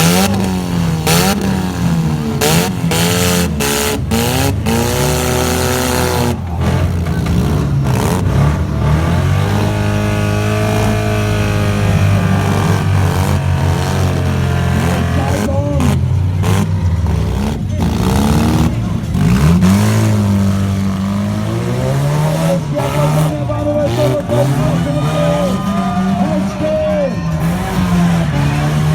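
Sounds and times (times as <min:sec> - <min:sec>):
car engines revving: 0:00.0 - 0:28.9
cars crashing: 0:00.0 - 0:28.9.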